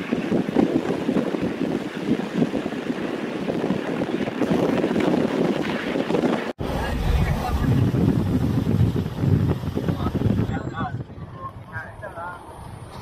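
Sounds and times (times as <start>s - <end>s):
moving car: 0.0s - 13.0s
wind buffeting microphone: 0.0s - 13.0s.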